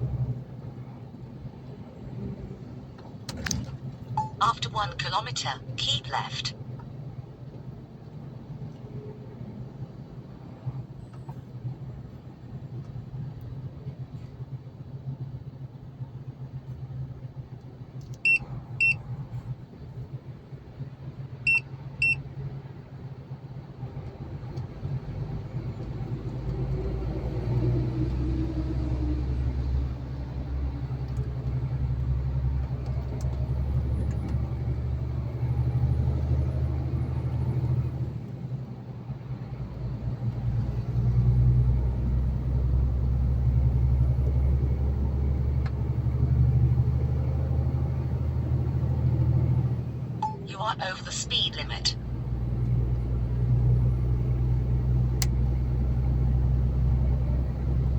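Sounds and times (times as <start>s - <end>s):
truck engine and road rumble: 0.0s - 57.9s.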